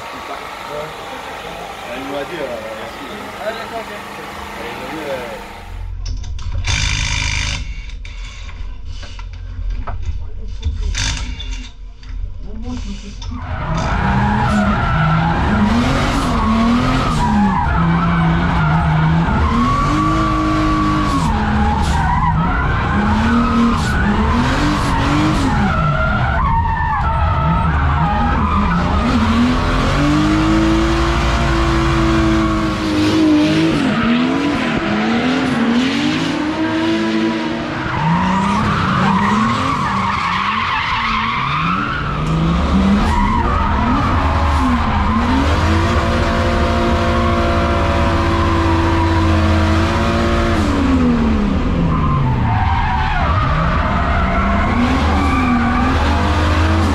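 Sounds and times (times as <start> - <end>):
car engine revving: 0.0 - 6.0, 13.3 - 56.9
tyres skidding and squealing: 0.0 - 6.0, 12.5 - 56.9.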